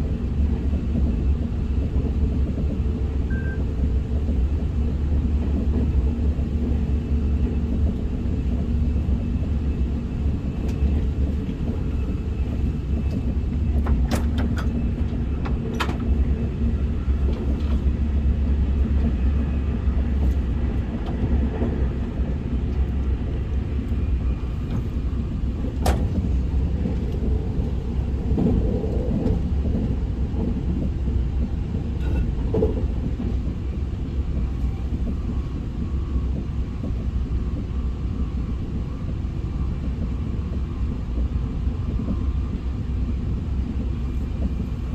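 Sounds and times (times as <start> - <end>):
train cabin low rumble: 0.0 - 44.9.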